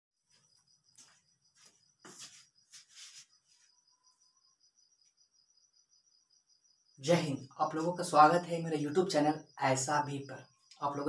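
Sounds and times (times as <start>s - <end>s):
cricket trilling: 0.2s - 11.0s.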